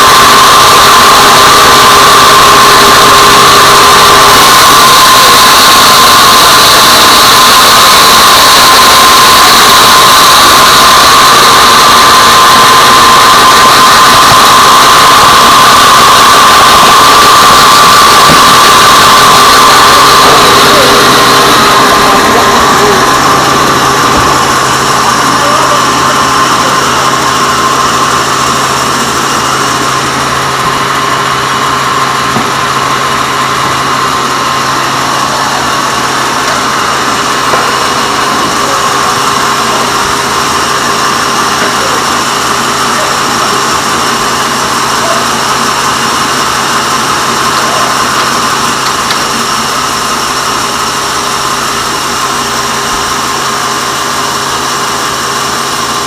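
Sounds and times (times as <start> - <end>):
band sawmill droning: 0.0 - 56.0.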